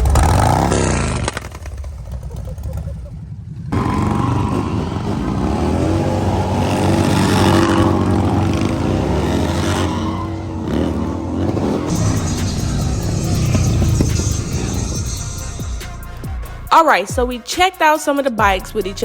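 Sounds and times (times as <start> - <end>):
motorcycle engine revving: 0.0 - 16.7.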